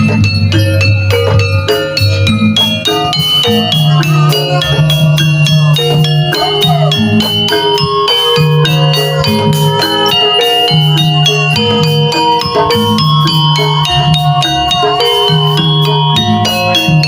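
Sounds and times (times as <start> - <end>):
metallophones playing fast runs: 0.0 - 17.0.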